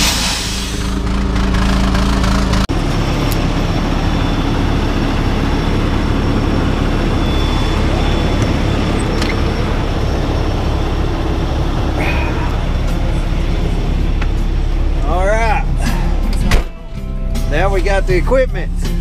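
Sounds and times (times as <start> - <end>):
road and wind noise: 0.0 - 19.0
vehicle engine rumble: 0.0 - 19.0.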